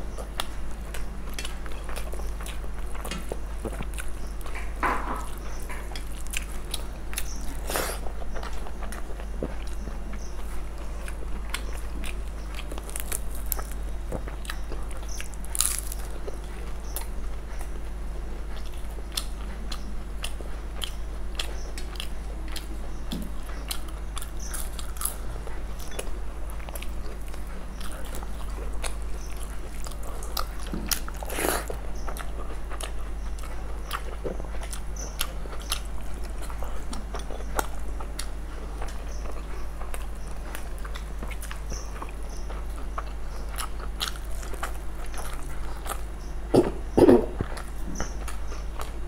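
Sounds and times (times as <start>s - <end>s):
chewing and crunching: 0.0s - 49.0s
low electrical hum: 0.0s - 49.0s.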